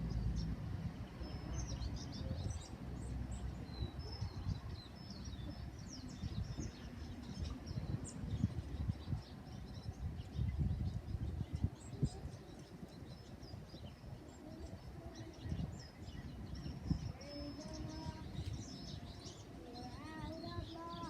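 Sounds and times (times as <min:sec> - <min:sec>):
steady low rumble: 0:00.0 - 0:18.8
small birds chirping: 0:00.0 - 0:21.0.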